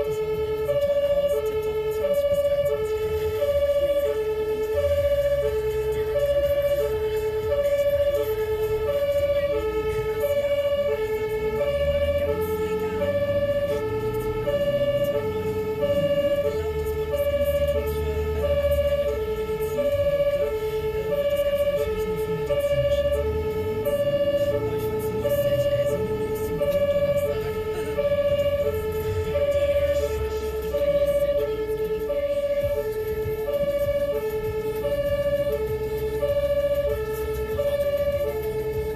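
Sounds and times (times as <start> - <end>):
engine and road rumble: 0.0 - 38.9
two-tone emergency siren: 0.0 - 38.9.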